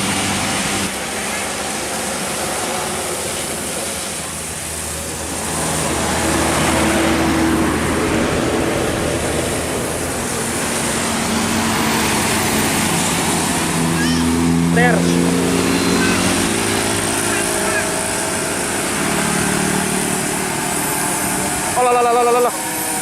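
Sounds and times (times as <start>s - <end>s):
bus passing: 0.0s - 23.0s.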